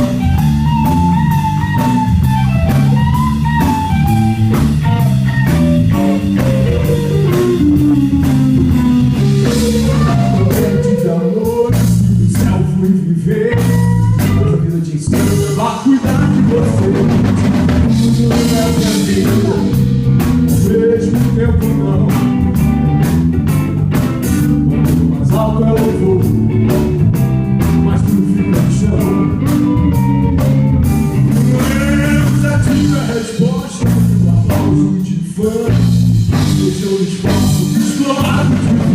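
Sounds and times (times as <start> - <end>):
electric guitar lead line bending: 0.0 - 38.9
rock band playing: 0.0 - 38.9.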